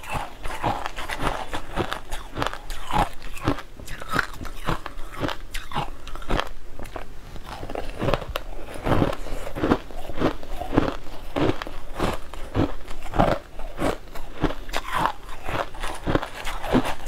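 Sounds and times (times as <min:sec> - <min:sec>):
crunching ice being chewed: 0:00.0 - 0:17.0.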